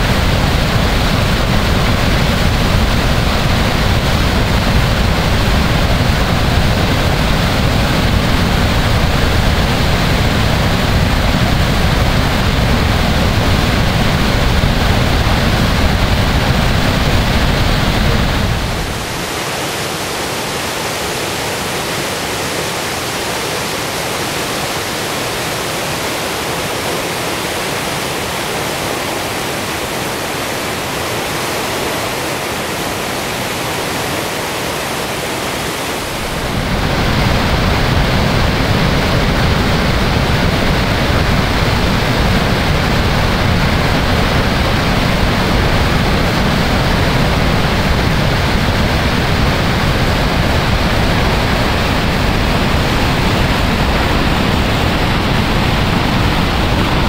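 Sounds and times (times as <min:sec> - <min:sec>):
rushing rapids: 0:00.0 - 0:57.0
waterfall roaring: 0:00.0 - 0:57.0.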